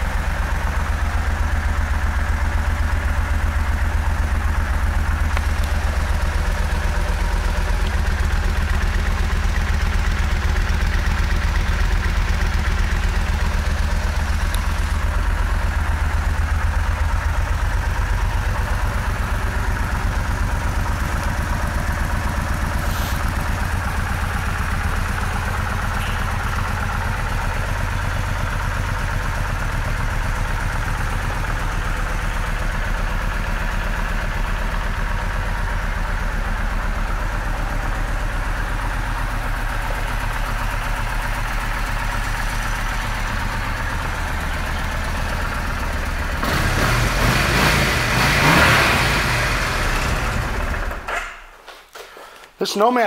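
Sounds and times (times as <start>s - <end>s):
motorcycle engine idling and revving: 0.0s - 51.6s.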